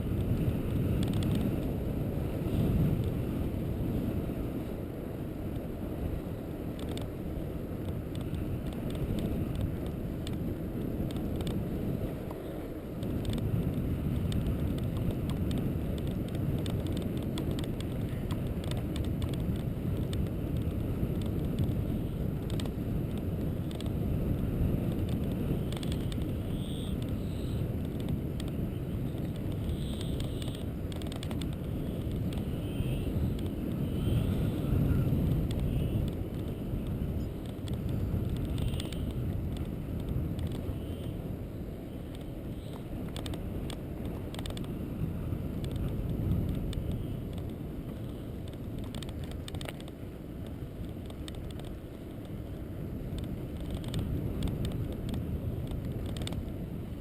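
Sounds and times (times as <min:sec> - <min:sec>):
road travel rumble: 0:00.0 - 0:57.0
wind on microphone: 0:00.0 - 0:57.0.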